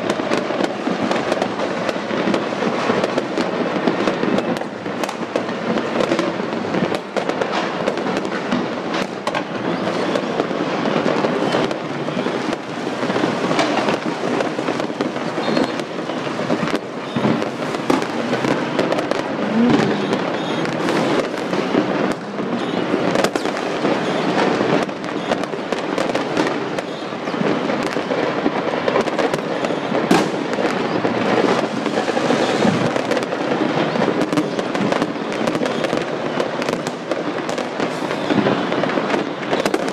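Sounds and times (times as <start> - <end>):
fireworks crackling and banging: 0.0 - 39.9.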